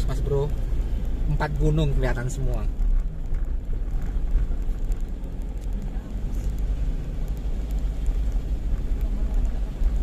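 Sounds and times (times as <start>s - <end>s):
vehicle driving on road: 0.0s - 10.0s.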